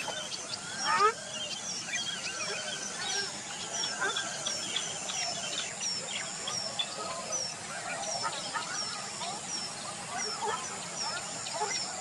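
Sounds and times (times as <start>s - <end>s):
wild birds chirping: 0.0s - 12.0s.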